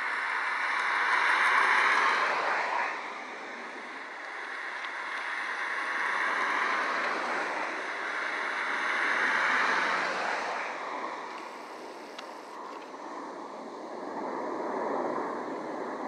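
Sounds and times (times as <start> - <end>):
jets passing overhead: 0.0 - 16.0.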